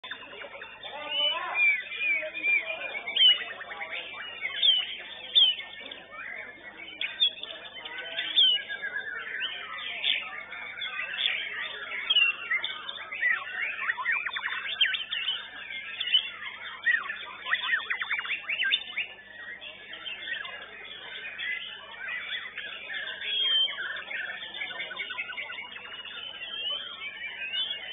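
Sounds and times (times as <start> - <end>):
songbird singing whistled song: 0.0 - 27.9.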